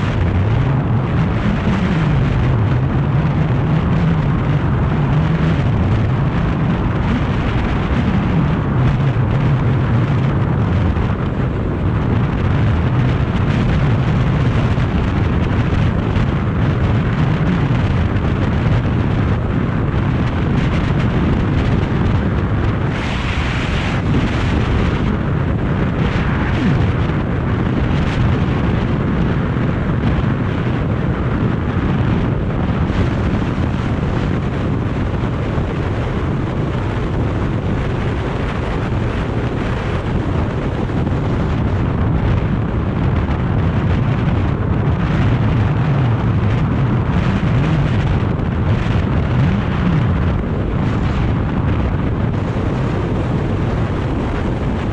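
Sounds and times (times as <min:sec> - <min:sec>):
motorcycle engine drone: 0:00.0 - 0:54.9
wind buffeting microphone: 0:00.0 - 0:54.9.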